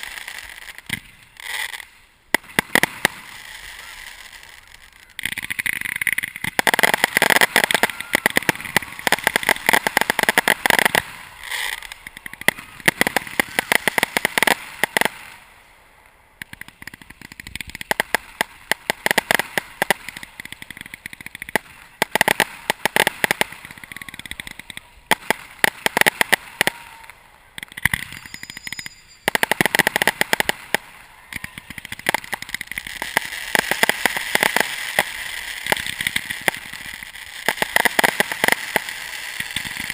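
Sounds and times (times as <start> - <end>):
fireworks cracks and bangs: 0.0 - 39.9.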